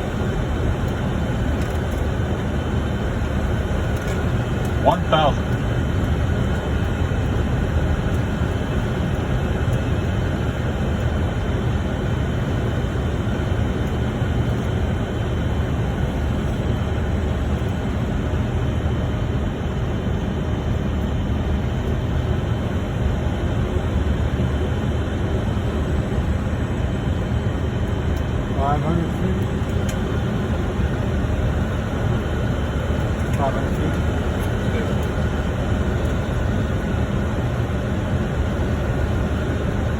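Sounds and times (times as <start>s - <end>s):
deep engine rumble: 0.0s - 39.9s.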